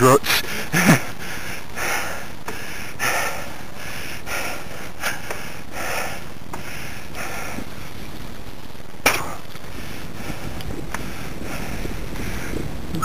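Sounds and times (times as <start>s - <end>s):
bike riding hiss: 0.0s - 13.0s
rider breathing hard: 0.3s - 8.4s, 9.1s - 12.9s.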